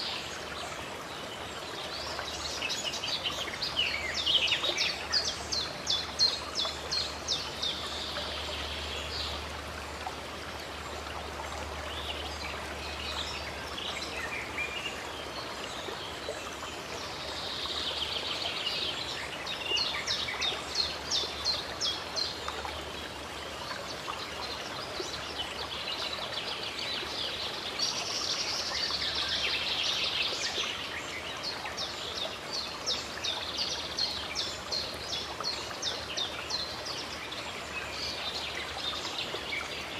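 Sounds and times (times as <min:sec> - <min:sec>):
songbirds chirping: 0:00.0 - 0:39.9
stream water rushing: 0:00.0 - 0:39.9.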